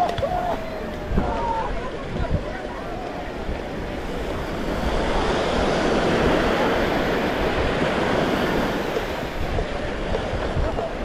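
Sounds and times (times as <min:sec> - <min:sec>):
small waves breaking on sand: 0:00.0 - 0:11.0
wind rumbling on microphone: 0:00.0 - 0:11.0.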